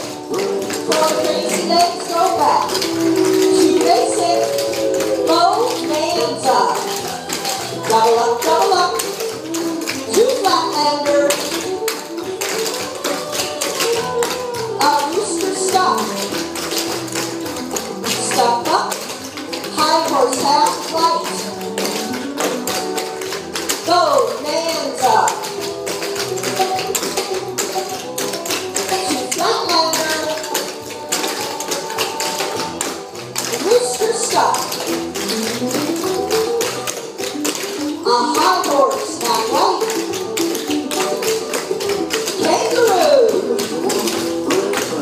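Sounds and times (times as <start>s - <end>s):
recorded music: 0.0s - 45.0s
tap shoes on wooden board: 0.0s - 45.0s.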